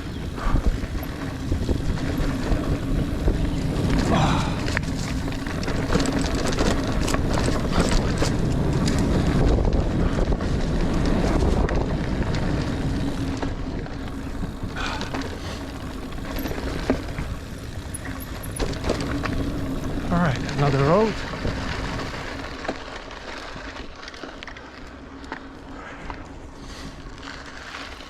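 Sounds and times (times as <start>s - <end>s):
wind buffeting microphone: 0.0s - 22.6s
bike rattling over bumps: 0.0s - 28.0s
bike tyres rolling on dirt: 0.0s - 28.0s.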